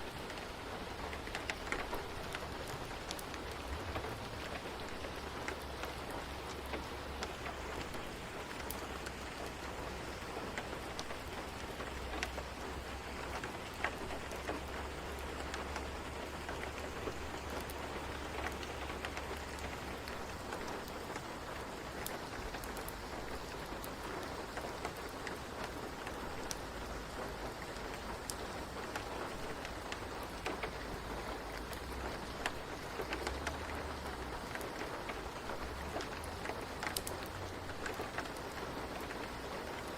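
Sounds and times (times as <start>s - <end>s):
faint ticks of raindrops: 0.0s - 39.9s
steady rain falling: 0.0s - 39.9s.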